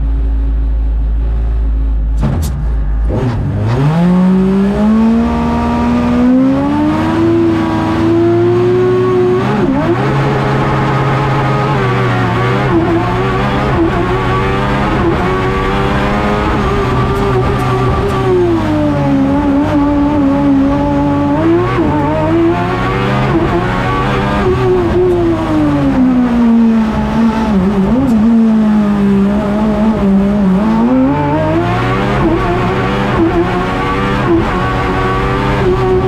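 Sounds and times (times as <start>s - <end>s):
race car engine shifting gears: 2.2s - 36.0s.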